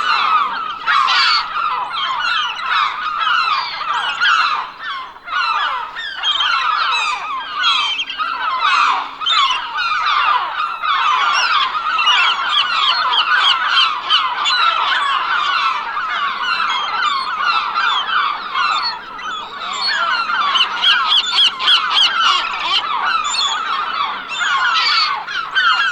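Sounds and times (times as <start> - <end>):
flock of birds calling: 0.0 - 25.9.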